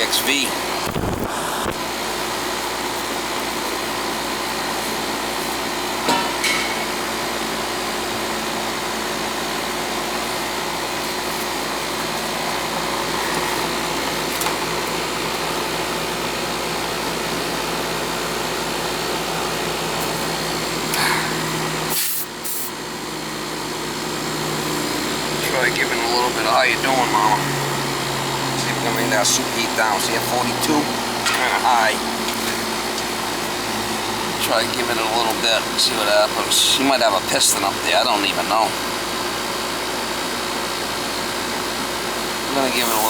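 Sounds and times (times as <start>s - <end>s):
condenser fan whooshing: 0.0s - 43.0s
faint compressor hum: 0.0s - 43.0s.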